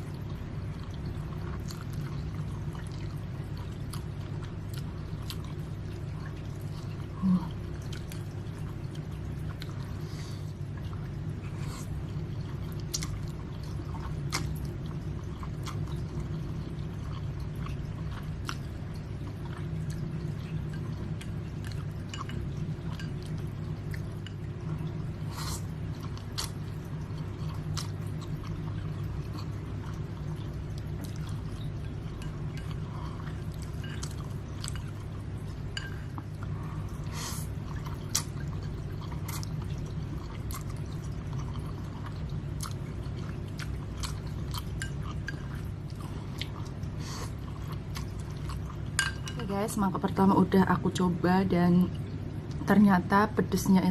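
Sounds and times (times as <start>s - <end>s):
low background hum: 0.0s - 53.9s
slurping and chewing noodles: 0.8s - 35.2s, 35.8s - 49.0s.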